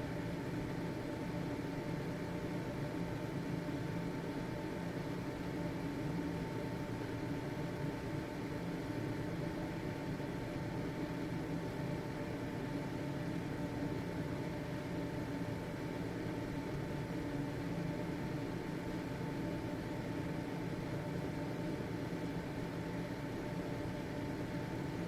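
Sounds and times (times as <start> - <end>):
ventilation fan running: 0.0 - 25.0.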